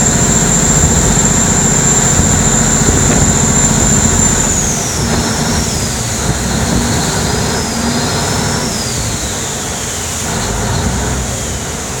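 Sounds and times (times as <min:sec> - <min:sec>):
high-pitched whine: 0:00.0 - 0:10.8
boat engine running hard: 0:00.0 - 0:12.0
water spray rushing: 0:00.0 - 0:12.0.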